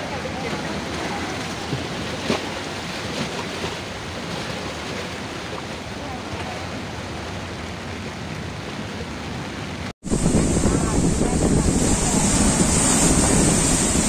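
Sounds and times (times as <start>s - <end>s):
water rushing through street: 0.0s - 14.0s.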